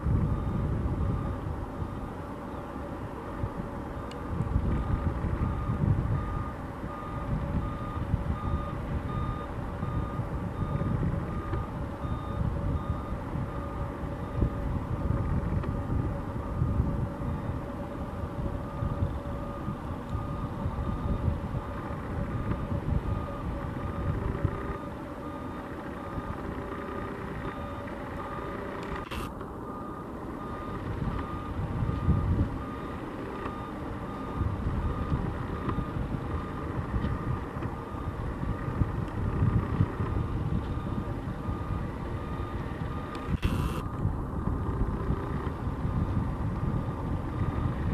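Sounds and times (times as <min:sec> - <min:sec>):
low vehicle rumble: 0:00.0 - 0:47.9
reversing beeper: 0:00.2 - 0:02.6, 0:03.9 - 0:14.7, 0:16.4 - 0:38.8, 0:39.4 - 0:43.9.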